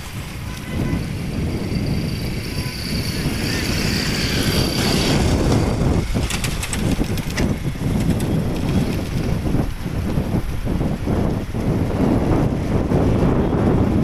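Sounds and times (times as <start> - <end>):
motorbike riding noise: 0.0 - 14.0
wind buffeting microphone: 0.0 - 14.0.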